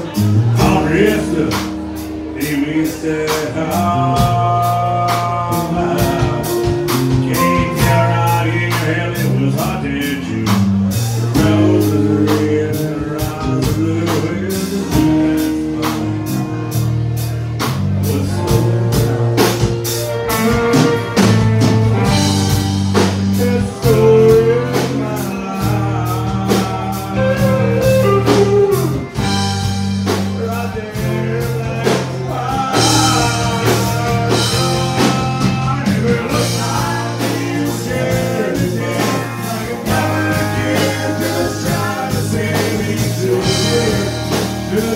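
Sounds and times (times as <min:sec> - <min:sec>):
live band playing: 0:00.0 - 0:44.9
man singing lead: 0:00.0 - 0:44.9.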